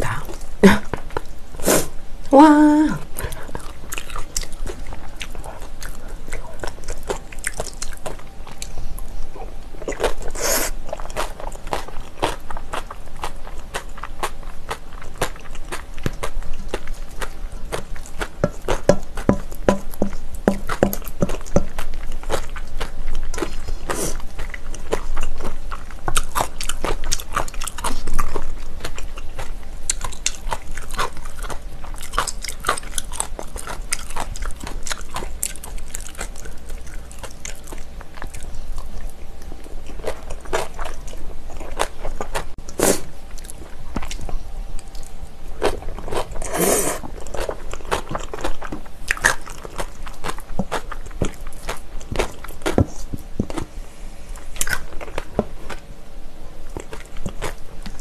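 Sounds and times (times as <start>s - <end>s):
wet chewing and biting: 3.1s - 8.8s, 9.8s - 53.7s, 54.6s - 55.9s, 56.7s - 58.0s.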